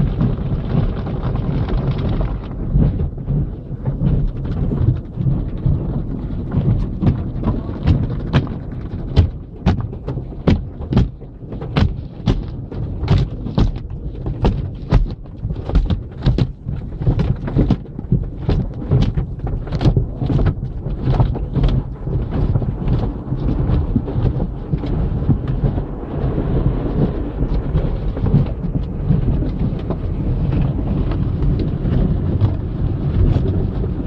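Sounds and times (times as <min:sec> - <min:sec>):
steady low rumble: 0:00.0 - 0:34.0
wash brushes slapping a car: 0:00.0 - 0:34.0.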